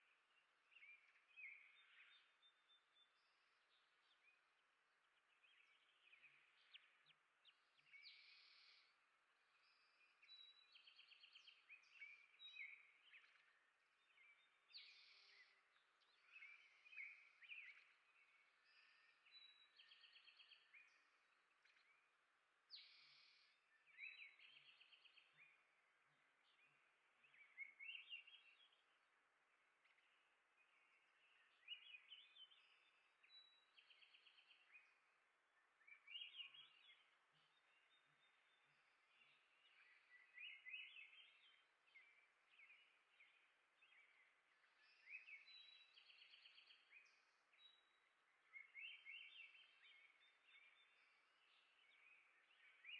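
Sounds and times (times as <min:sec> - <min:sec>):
songbird chirps and trills: 0:00.0 - 0:52.9.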